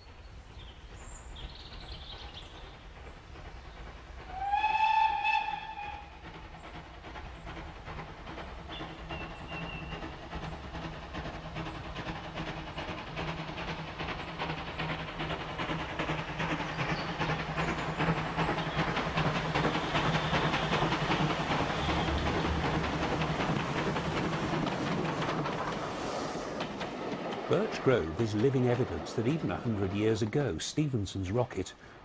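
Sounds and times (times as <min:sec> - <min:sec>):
steam locomotive chuffing: 0:00.0 - 0:32.0
hissing steam: 0:00.3 - 0:32.0.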